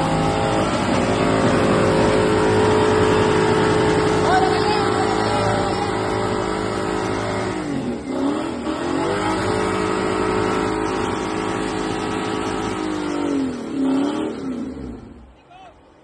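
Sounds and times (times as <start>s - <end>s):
pickup truck engine revving: 0.0s - 15.3s.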